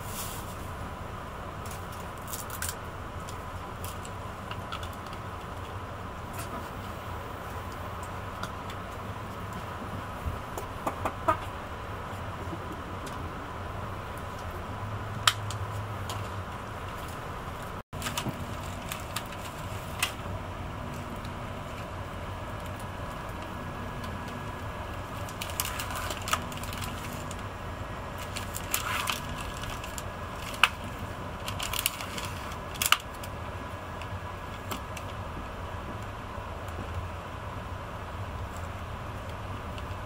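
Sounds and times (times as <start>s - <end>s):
faint hum: 0.0s - 40.0s
train low rumble: 0.0s - 40.0s.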